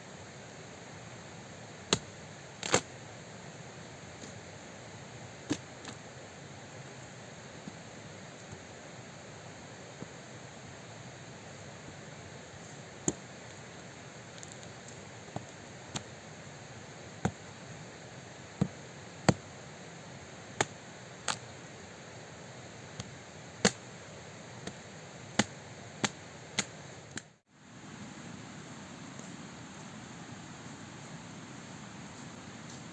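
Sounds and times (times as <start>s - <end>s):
background hiss: 0.0s - 32.9s.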